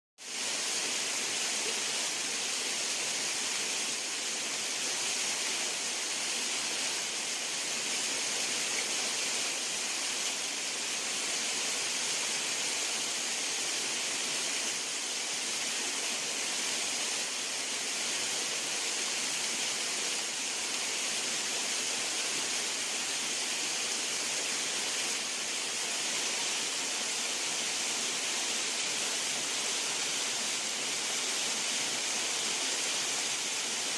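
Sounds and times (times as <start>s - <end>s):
rushing water: 0.2s - 33.9s.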